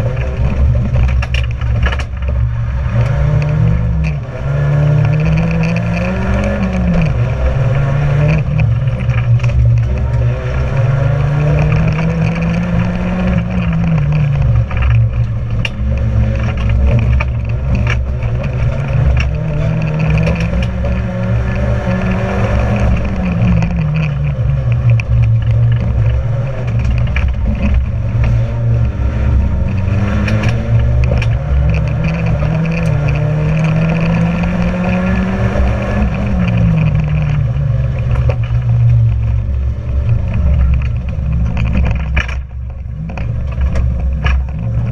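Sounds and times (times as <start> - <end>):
racing car engine revving: 0.0 - 44.9
road and tyre rumble: 0.0 - 44.9.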